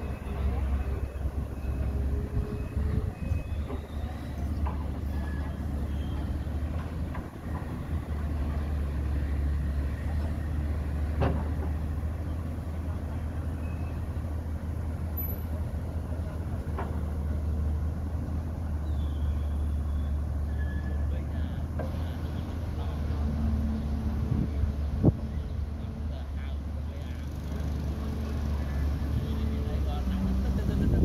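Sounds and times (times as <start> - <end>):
diesel engines droning: 0.0 - 31.0.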